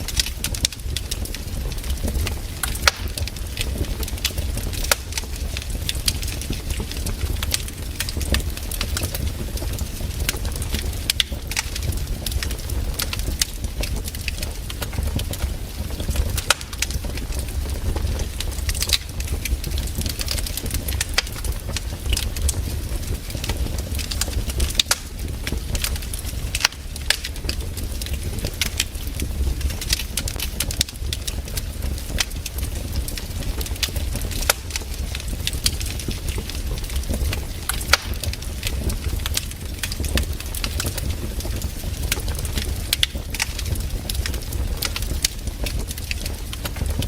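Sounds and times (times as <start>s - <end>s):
campfire crackling and popping: 0.0s - 47.0s
low fire rumble: 0.0s - 47.0s.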